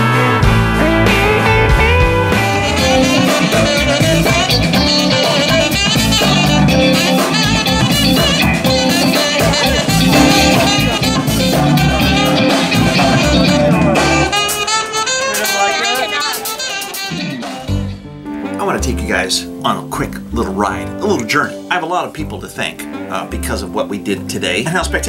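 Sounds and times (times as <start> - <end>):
upbeat music with drums and guitar: 0.0 - 25.0.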